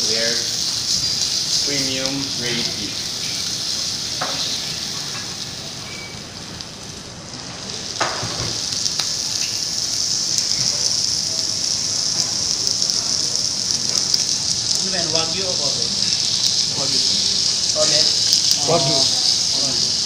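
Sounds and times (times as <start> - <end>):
beef sizzling on hot stone: 0.0 - 20.0.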